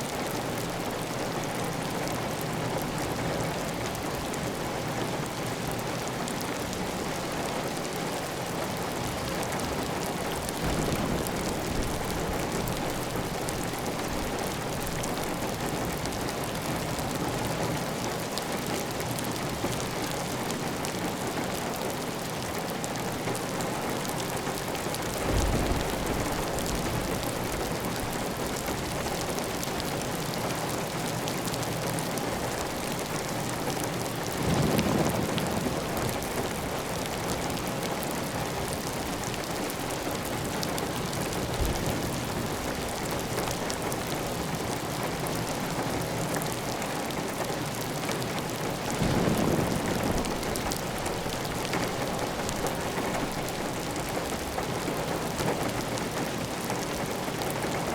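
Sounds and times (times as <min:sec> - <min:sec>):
heavy rain on a tile roof: 0:00.0 - 0:57.9.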